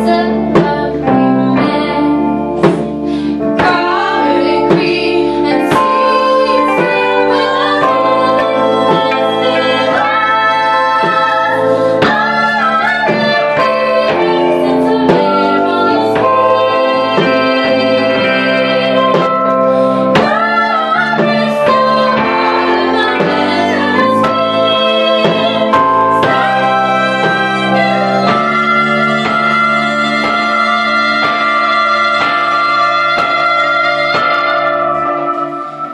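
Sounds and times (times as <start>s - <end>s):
electric keyboard chords: 0.0s - 35.9s
women singing in harmony: 0.0s - 35.9s
drum and cymbal hits: 2.6s - 35.9s.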